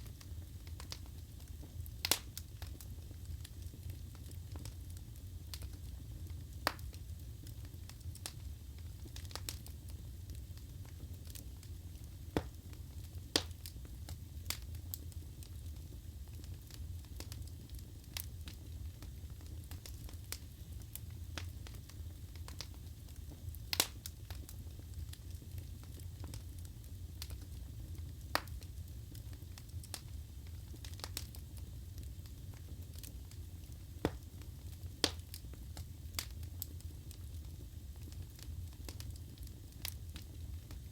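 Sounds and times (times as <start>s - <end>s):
low fire rumble: 0.0s - 40.9s
wood fire crackling: 0.0s - 40.9s.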